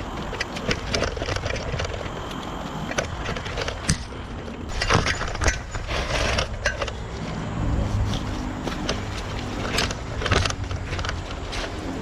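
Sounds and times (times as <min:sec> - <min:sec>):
mountain bike rattling: 0:00.0 - 0:12.0.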